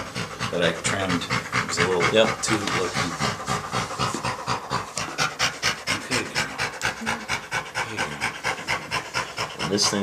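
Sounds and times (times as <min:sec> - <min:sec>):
dog panting rapidly: 0:00.0 - 0:10.0.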